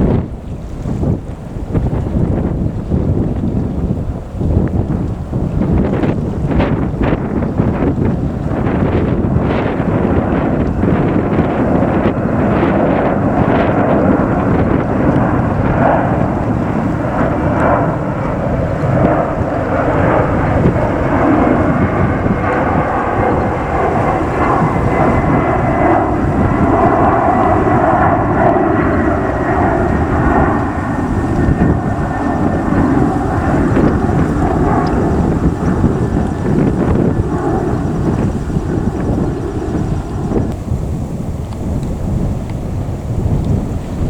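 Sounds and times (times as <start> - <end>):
jet engines roaring: 0.0 - 44.0.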